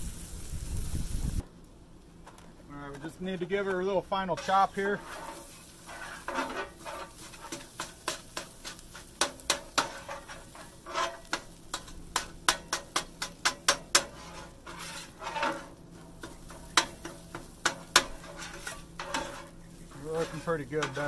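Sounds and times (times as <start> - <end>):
food sizzling: 0.0 - 1.4, 3.1 - 21.0
metal scrapers clacking on griddle: 2.2 - 21.0
scrapers scraping griddle: 2.3 - 21.0.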